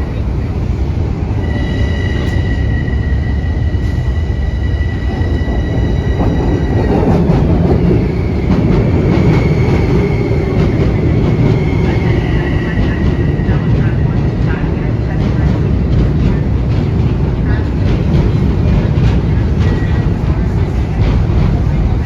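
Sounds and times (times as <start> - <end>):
high whine of train: 0.0 - 22.0
train rumbling: 0.0 - 22.0.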